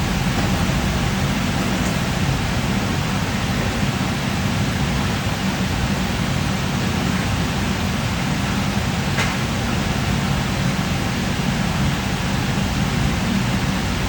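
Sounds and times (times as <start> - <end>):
machine running with low hum: 0.0 - 14.0.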